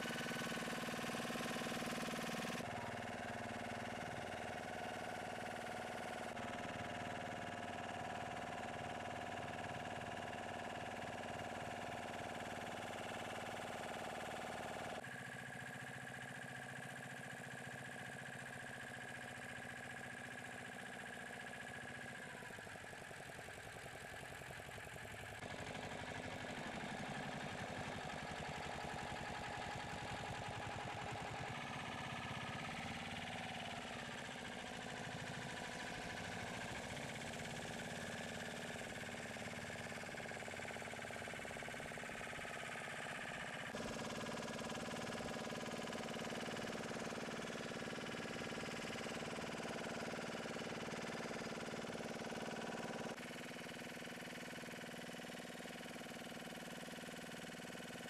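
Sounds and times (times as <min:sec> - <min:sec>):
motor boat engine running: 0:00.0 - 0:58.0.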